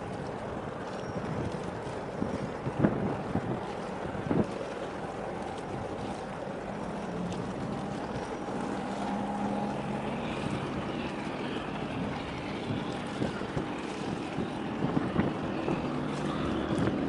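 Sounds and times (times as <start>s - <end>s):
boat engine droning: 0.0s - 17.0s
wind on microphone: 0.0s - 17.0s.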